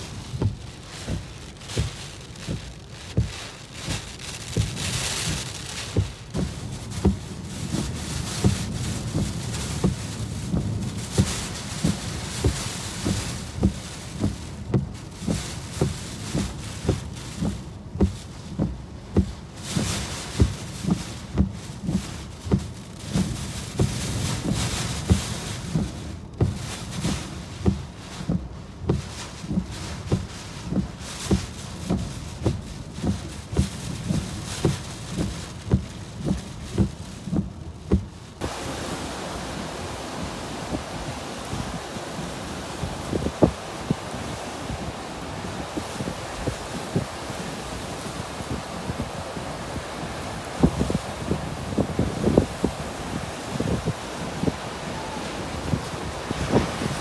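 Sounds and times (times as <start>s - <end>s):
dull low thuds: 0.0s - 57.0s
heavy rain hissing on a car: 0.0s - 57.0s.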